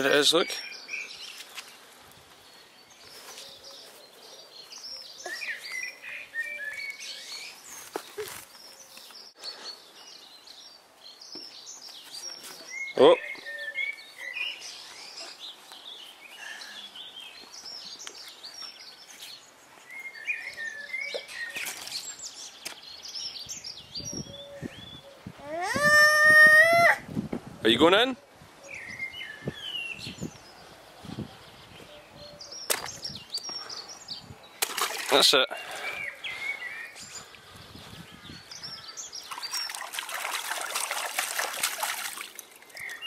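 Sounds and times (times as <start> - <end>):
birds chirping and singing: 0.0 - 43.0.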